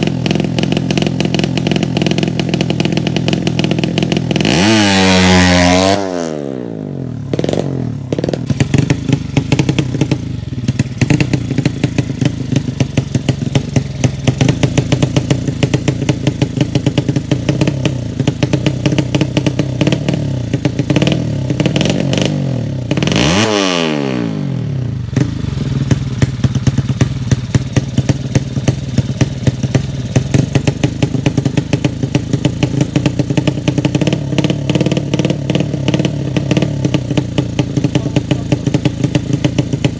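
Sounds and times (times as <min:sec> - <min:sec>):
motorcycle engine idling with popping: 0:00.0 - 0:39.9.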